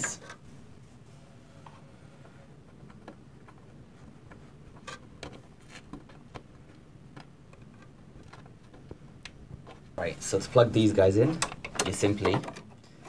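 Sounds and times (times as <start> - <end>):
cables rustling: 0.0 - 13.0.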